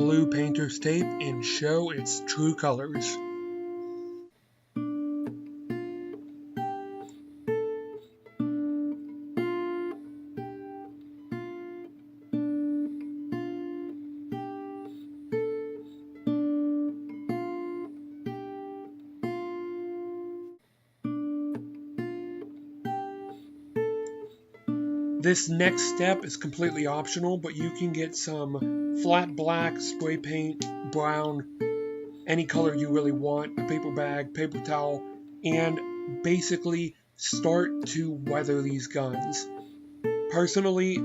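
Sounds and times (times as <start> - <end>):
acoustic guitar picking notes: 0.0 - 41.0.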